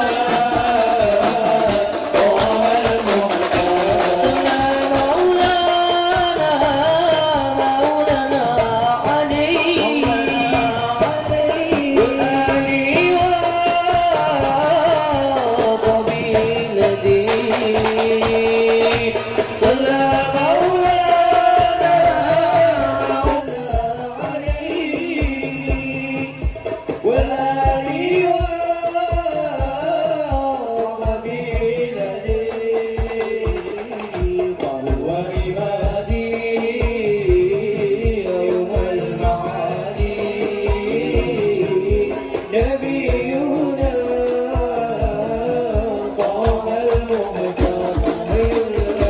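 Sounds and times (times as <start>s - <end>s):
frame drums beating: 0.0s - 49.0s
men singing devotional song: 0.0s - 49.0s.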